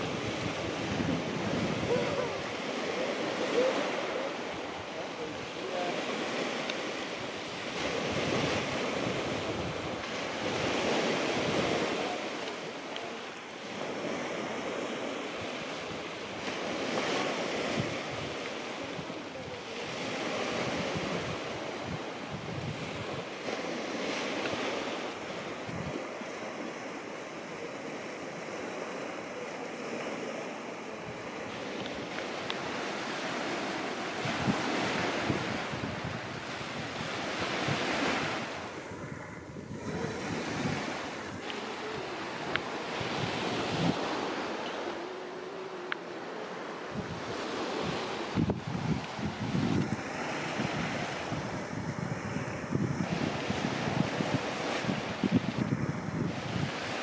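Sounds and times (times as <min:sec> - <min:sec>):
waves breaking on shingle beach: 0:00.0 - 0:57.0
wind rumbling on microphone: 0:00.0 - 0:57.0.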